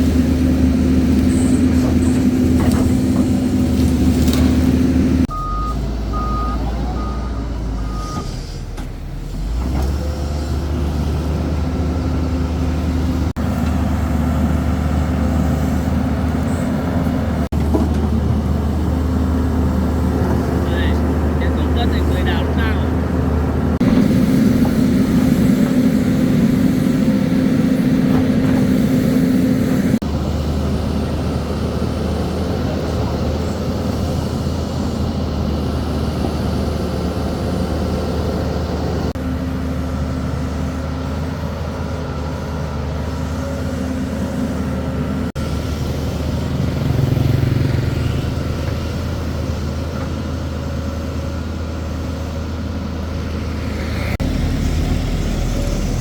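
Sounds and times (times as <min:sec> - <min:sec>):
crane engine running: 0:00.0 - 0:56.0.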